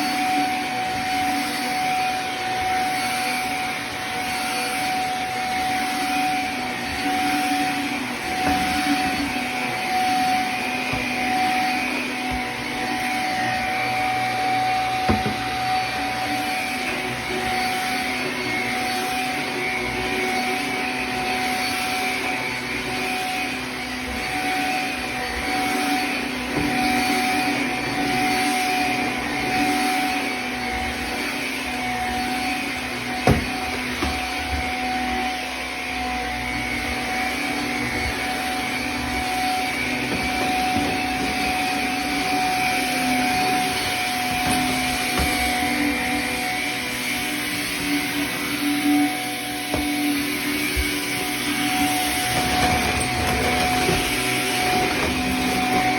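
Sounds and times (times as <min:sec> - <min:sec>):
vacuum cleaner on carpet: 0:00.0 - 0:55.9.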